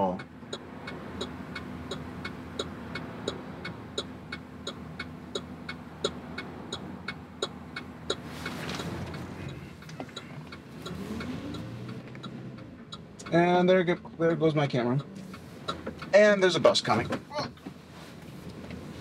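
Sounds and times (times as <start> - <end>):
van engine idling: 0.0 - 18.1
turn signal ticking: 0.0 - 19.0.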